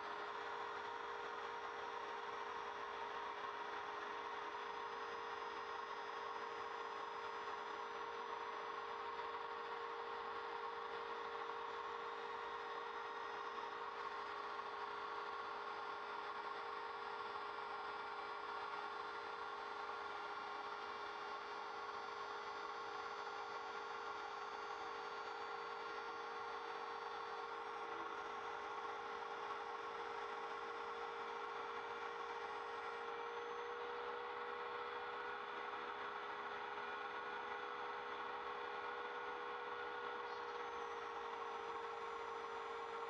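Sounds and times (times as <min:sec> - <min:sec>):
router motor whine: 0:00.0 - 0:43.0.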